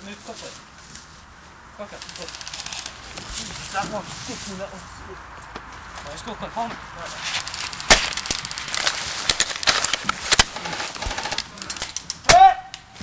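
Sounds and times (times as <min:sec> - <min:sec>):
footsteps crunching over debris: 0:00.0 - 0:11.6.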